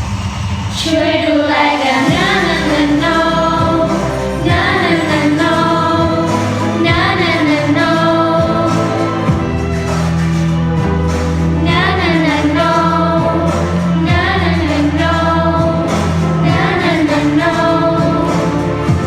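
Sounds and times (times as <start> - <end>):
choir singing pop song: 0.7 - 19.0
low bass line: 2.1 - 19.0.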